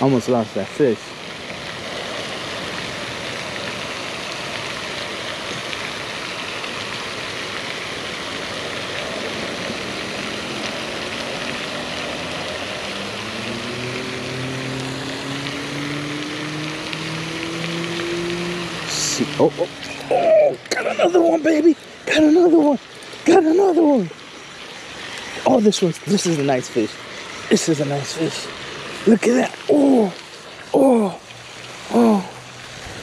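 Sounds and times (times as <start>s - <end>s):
fountain water spray hissing: 0.0s - 33.0s
engine hum: 1.0s - 33.0s.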